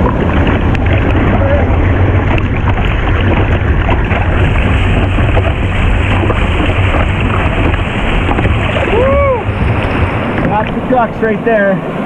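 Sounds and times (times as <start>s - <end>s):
rushing whitewater: 0.0s - 12.0s
wind buffeting microphone: 0.0s - 12.0s.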